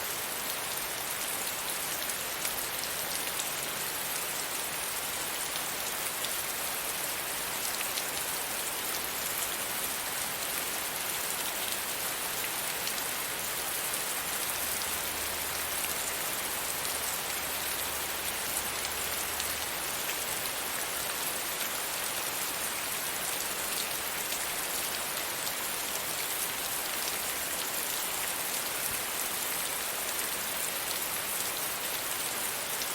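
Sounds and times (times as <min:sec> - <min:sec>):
light rain falling: 0:00.0 - 0:32.9.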